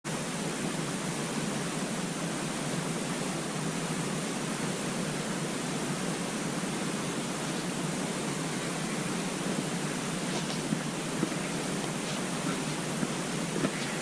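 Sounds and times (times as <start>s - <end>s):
steady rushing hiss: 0.1s - 14.0s.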